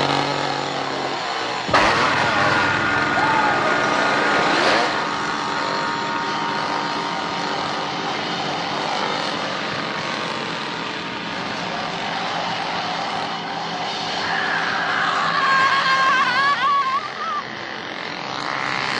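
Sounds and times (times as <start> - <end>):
chainsaw engine running and revving: 0.0 - 18.9.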